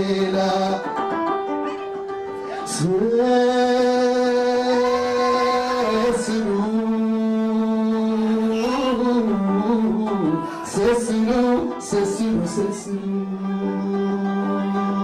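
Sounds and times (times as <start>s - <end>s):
man singing into a microphone: 0.0s - 1.6s, 2.4s - 15.0s.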